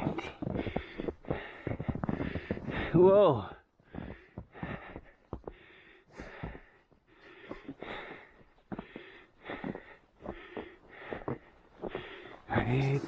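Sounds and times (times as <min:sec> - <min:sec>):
runner breathing heavily: 0:00.2 - 0:13.0.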